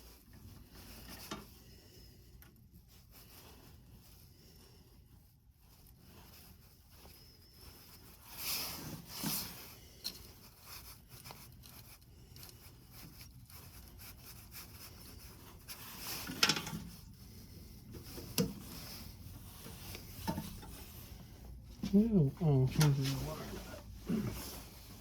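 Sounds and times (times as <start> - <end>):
hands rubbing and scraping parts: 0.0 - 25.0.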